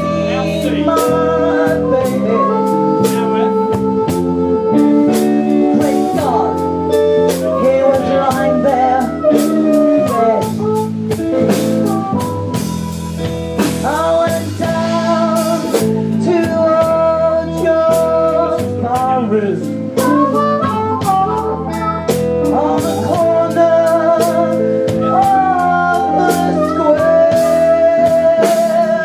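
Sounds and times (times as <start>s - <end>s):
woman singing: 0.0s - 10.8s, 13.6s - 29.0s
amplified harmonica: 0.0s - 29.0s
drum kit: 0.0s - 29.0s
electric guitar: 0.0s - 29.0s.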